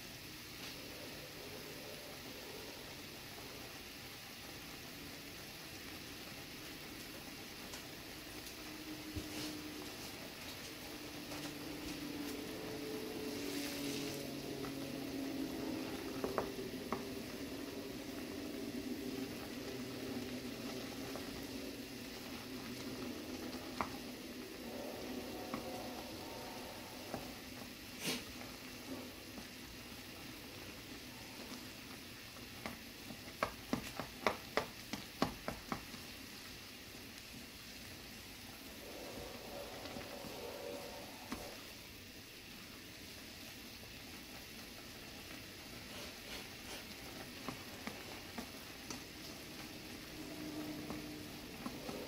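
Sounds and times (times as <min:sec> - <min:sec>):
broth bubbling at a boil: 0:00.0 - 0:52.0.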